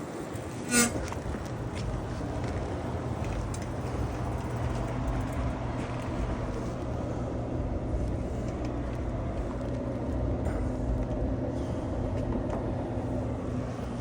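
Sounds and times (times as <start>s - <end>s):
city street traffic hum: 0.0s - 14.0s
vehicle engine idling: 0.9s - 14.0s.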